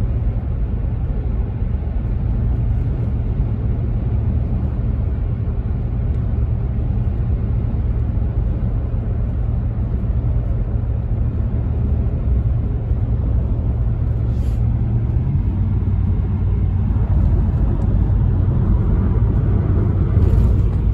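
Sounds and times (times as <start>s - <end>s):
road and engine rumble in car: 0.0s - 20.9s.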